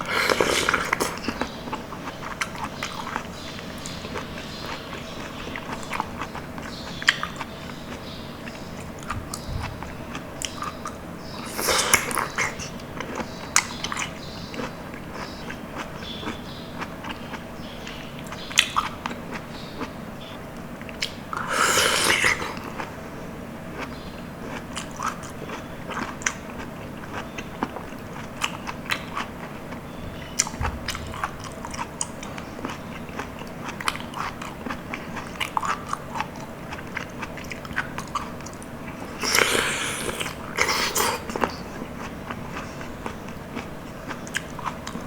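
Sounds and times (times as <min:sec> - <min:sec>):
wet sticky chewing: 0:00.0 - 0:23.0, 0:23.7 - 0:45.0.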